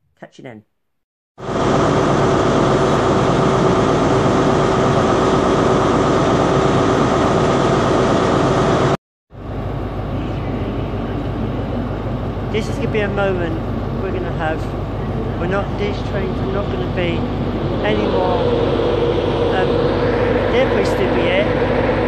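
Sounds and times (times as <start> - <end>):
diesel engine drone: 1.4 - 22.0.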